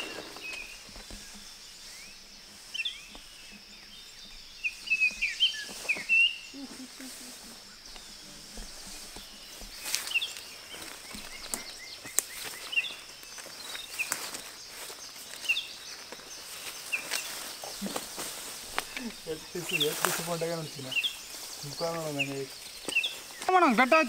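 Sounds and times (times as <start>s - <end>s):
rustles in brush: 0.0s - 23.6s
high insect drone: 0.0s - 24.0s
small birds chirping: 0.0s - 24.0s.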